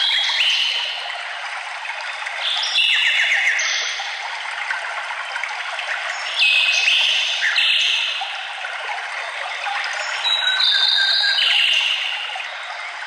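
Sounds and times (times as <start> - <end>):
songbirds singing: 0.0 - 1.2, 1.9 - 4.4, 5.7 - 13.0
running water rushing: 0.0 - 13.0.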